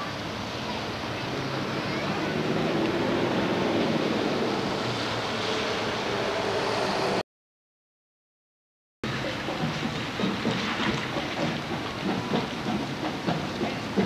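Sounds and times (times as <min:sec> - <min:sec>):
tyres swishing through water: 0:00.0 - 0:07.2, 0:09.1 - 0:14.0.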